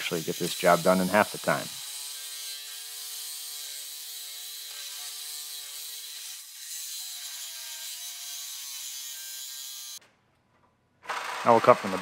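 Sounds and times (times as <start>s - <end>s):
reciprocating saw cutting metal: 0.0s - 10.0s.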